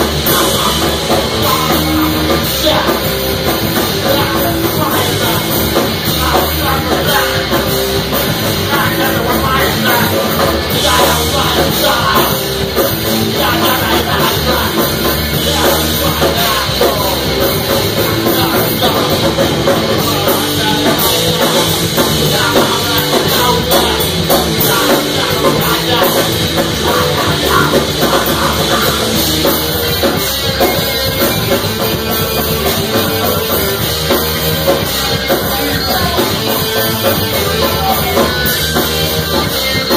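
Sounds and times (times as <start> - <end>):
bass guitar: 0.0 - 39.9
drum kit: 0.0 - 39.9
electric guitar: 0.0 - 39.9
person singing: 0.0 - 39.9.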